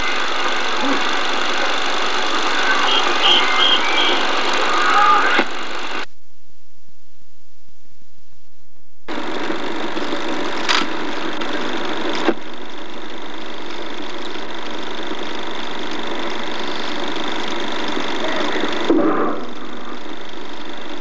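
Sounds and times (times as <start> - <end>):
film projector whirring: 0.0 - 6.1, 9.1 - 21.0.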